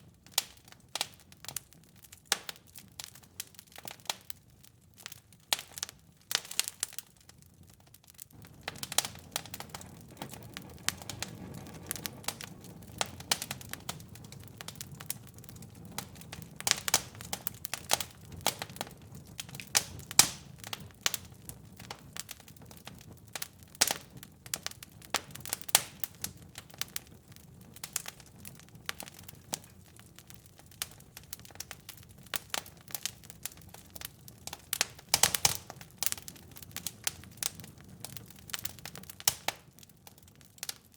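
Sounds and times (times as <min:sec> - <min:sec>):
fireplace fire crackling and popping: 0:00.0 - 0:40.9
low rumble of flames: 0:00.0 - 0:40.9.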